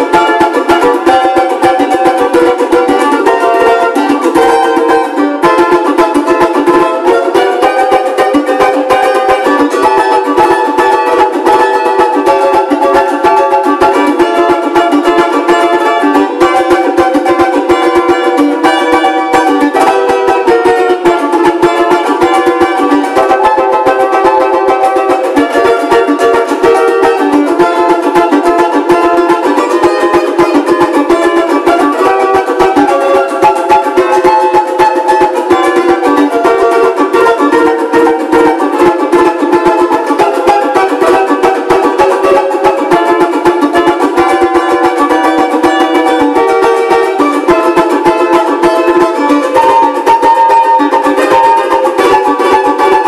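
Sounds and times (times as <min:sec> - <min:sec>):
banjo strummed fast: 0:00.0 - 0:53.0.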